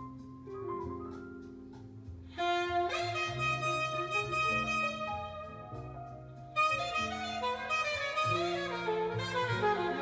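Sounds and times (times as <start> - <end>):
easy-listening instrumental music: 0.0 - 10.0.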